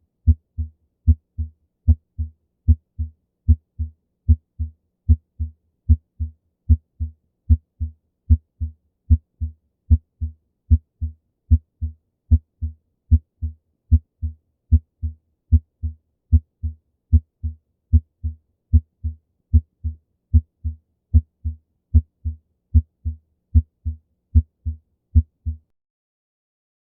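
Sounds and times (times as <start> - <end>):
heartbeat through stethoscope: 0.3 - 25.7.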